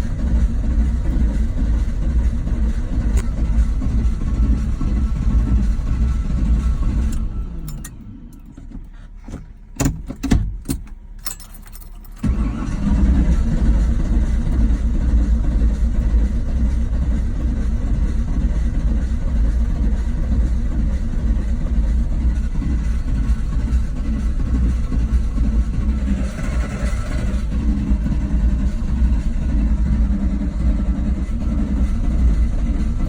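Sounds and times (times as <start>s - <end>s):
engine cranking on starter: 0.0s - 33.0s.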